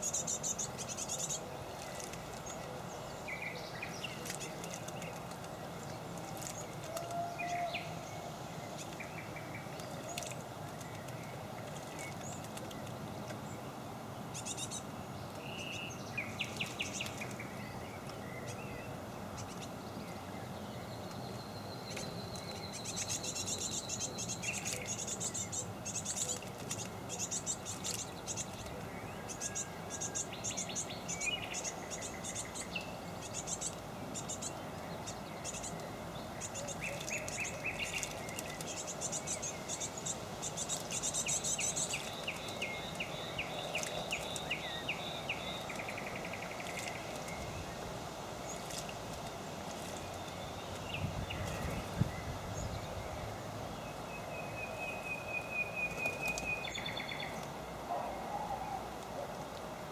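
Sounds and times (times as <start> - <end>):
low background noise: 0.0 - 59.9
songbirds chirping: 0.0 - 59.9.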